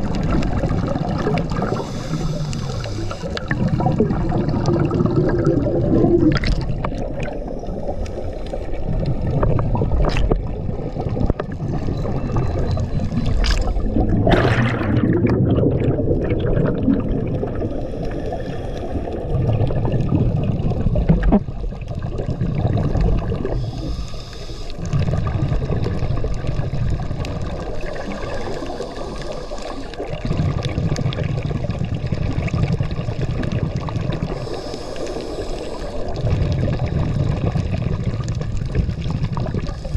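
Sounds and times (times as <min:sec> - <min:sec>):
scuba regulator bubbles: 0:00.0 - 0:39.9.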